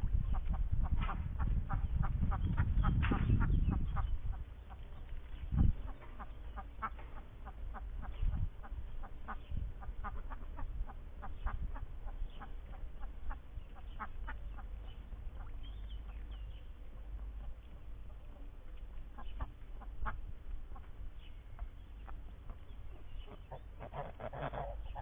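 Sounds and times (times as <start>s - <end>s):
ducks quacking: 0.1s - 21.0s, 21.6s - 25.0s.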